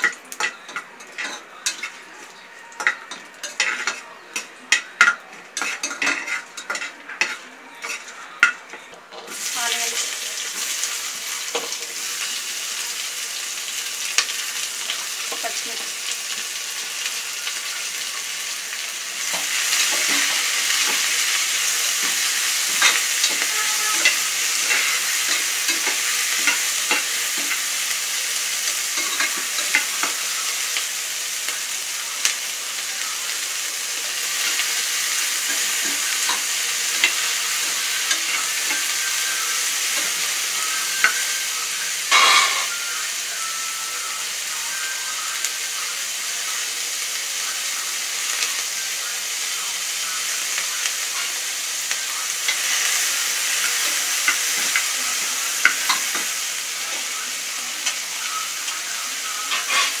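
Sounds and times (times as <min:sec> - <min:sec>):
food sizzling in a pot: 0:00.0 - 1:00.0.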